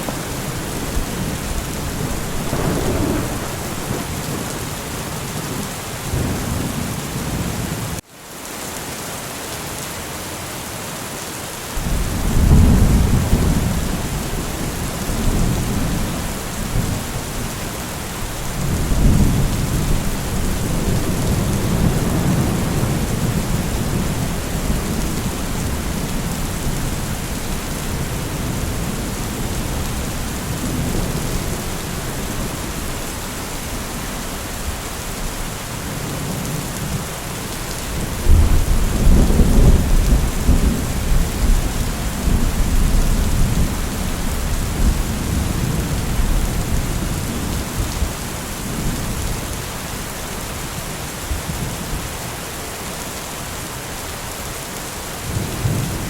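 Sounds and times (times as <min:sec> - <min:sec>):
thunder rumbling: 0:00.0 - 0:08.0, 0:11.8 - 0:37.1, 0:37.9 - 0:49.5
steady rain falling: 0:00.0 - 0:56.0.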